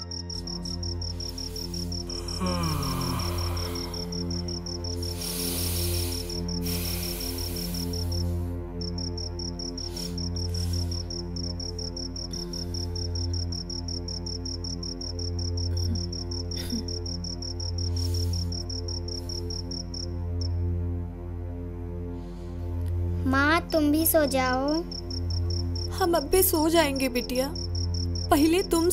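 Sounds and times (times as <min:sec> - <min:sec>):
cricket chirping: 0:00.0 - 0:20.7, 0:23.6 - 0:28.9.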